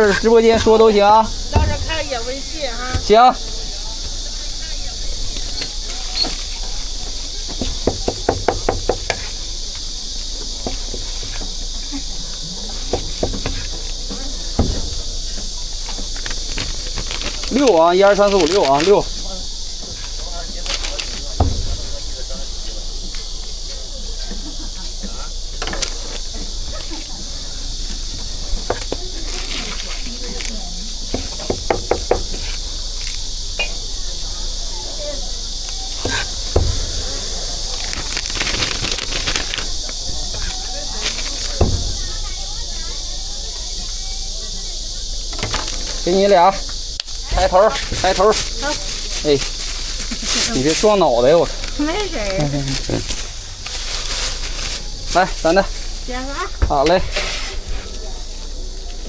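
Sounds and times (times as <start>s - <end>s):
high-pitched hiss: 0.0s - 59.0s.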